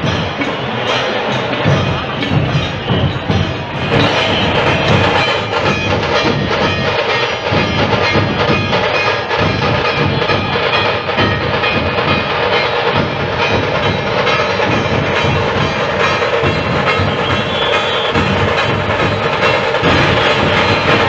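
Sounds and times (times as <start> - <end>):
percussion-led music: 0.0 - 21.0.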